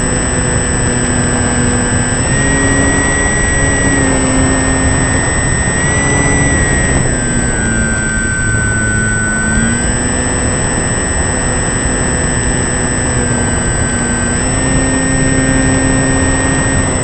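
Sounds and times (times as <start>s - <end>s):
motor whining and humming: 0.0s - 17.0s.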